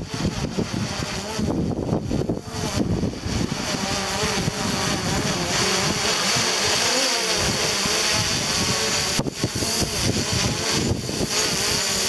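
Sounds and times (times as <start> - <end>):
drone propellers whining: 0.0 - 12.0
wind rumbling on microphone: 0.0 - 12.0.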